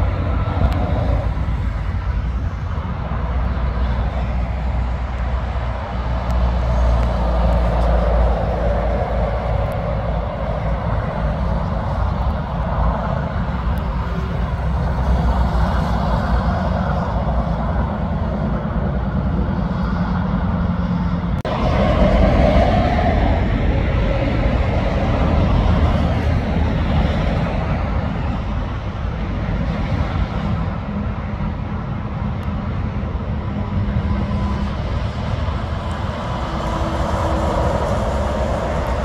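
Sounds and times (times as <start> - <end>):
truck approaching: 0.0 - 39.0
truck engine and tyres droning: 0.0 - 39.0.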